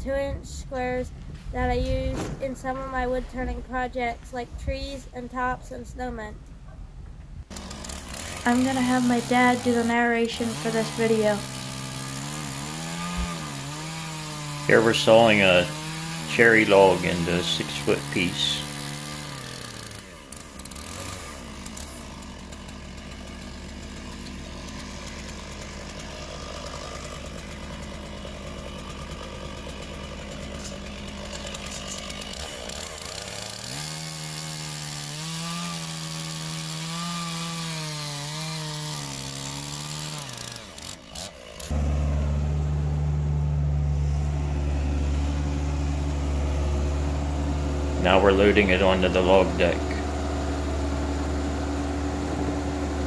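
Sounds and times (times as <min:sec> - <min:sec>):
skid steer engine idling: 0:07.5 - 0:37.0, 0:39.0 - 0:53.0
chainsaw cutting log: 0:07.5 - 0:53.0.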